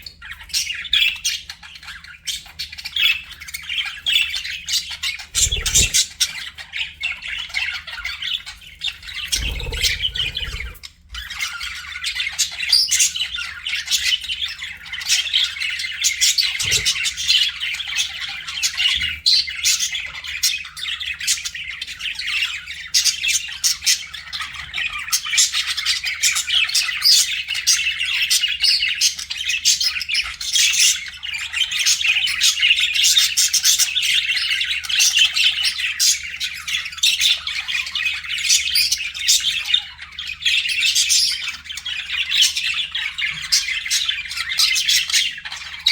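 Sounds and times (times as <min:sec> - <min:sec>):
budgerigars chattering and squawking: 0:00.0 - 0:45.9.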